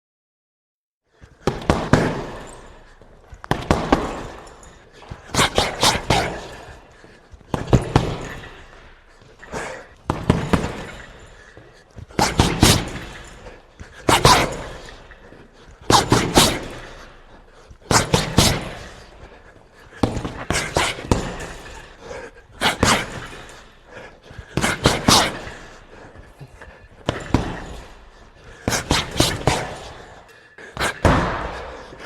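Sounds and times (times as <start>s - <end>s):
punches thudding on punching bag: 1.4s - 26.1s, 26.9s - 30.2s, 30.8s - 32.0s.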